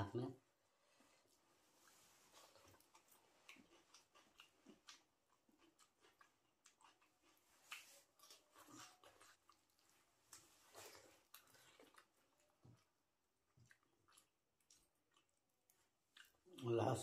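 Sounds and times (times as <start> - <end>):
person chewing food: 0.9 - 17.0.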